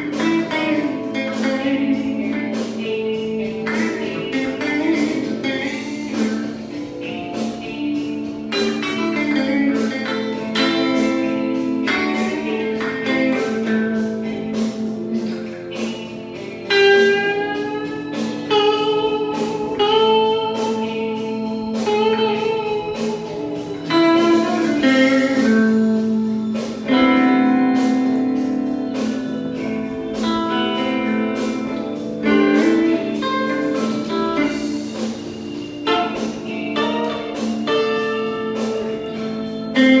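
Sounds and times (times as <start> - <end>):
blues guitar solo: 0.0 - 40.0.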